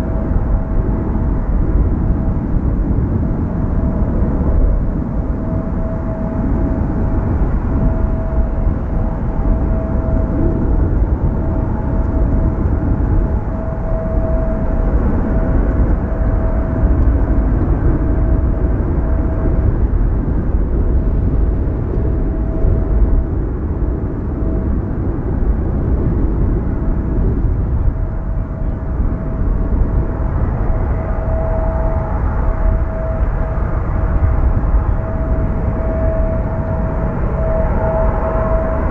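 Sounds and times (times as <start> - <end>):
jet engine noise: 0.0 - 38.9
thin steady whine: 0.0 - 38.9
wind rumble on microphone: 0.0 - 38.9.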